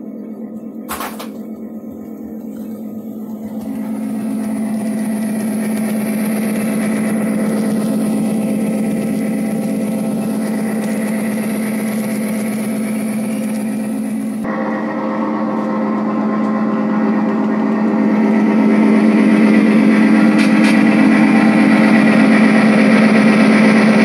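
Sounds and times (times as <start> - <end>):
model train engine hum: 0.0 - 24.0
wheels hissing on track: 2.3 - 24.0.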